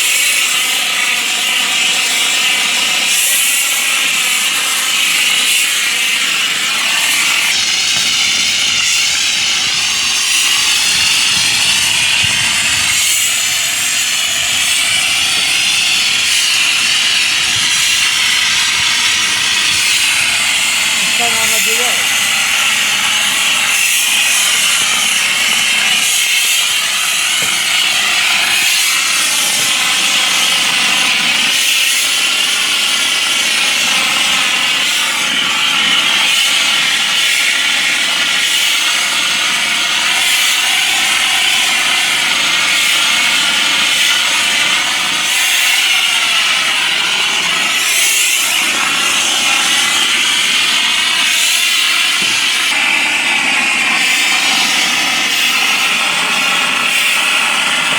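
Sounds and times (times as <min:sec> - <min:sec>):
loud hiss of spraying machine: 0:00.0 - 0:57.9.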